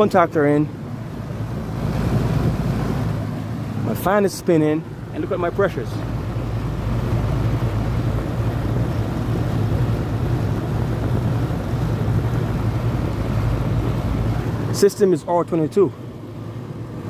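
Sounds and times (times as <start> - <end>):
compressor humming: 0.0 - 17.0
condenser fan air rush: 0.0 - 17.0.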